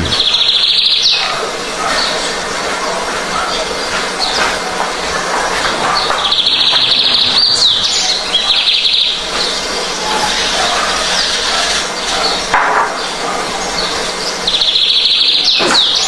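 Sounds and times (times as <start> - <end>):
bird singing buzzy trills: 0.0 - 4.6, 5.8 - 16.0.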